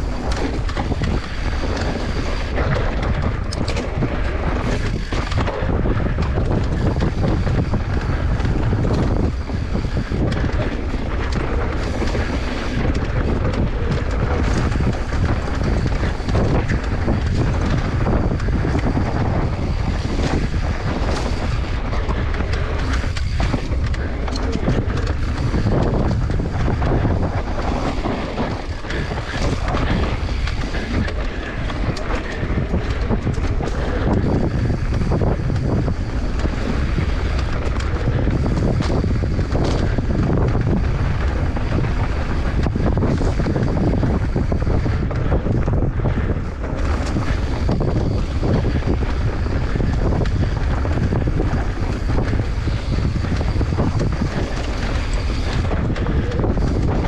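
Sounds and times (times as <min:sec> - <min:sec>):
bike knocking and rattling: 0:00.0 - 0:57.0
tyres on loose dirt: 0:00.0 - 0:57.0
wind buffeting microphone: 0:00.0 - 0:57.0.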